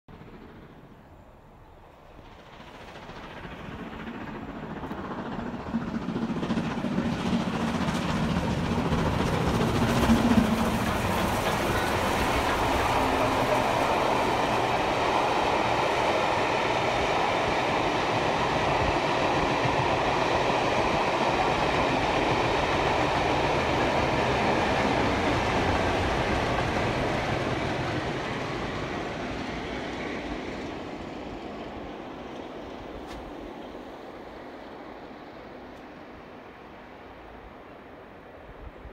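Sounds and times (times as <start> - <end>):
steam train passing: 0.1 - 38.9.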